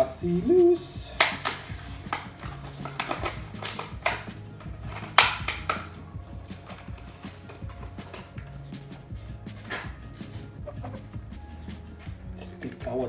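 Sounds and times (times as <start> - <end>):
plastic packaging crackling: 0.0 - 12.0
quiet background music: 0.0 - 13.0.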